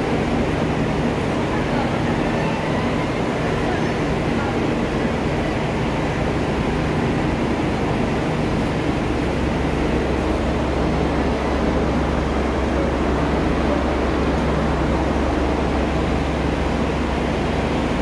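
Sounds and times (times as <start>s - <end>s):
diesel railcar idling: 0.0s - 18.0s.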